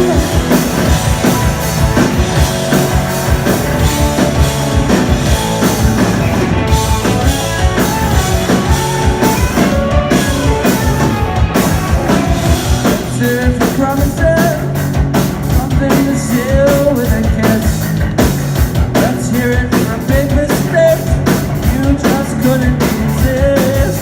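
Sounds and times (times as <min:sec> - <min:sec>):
drum kit steady beat: 0:00.0 - 0:24.0
electric guitars: 0:00.0 - 0:24.0.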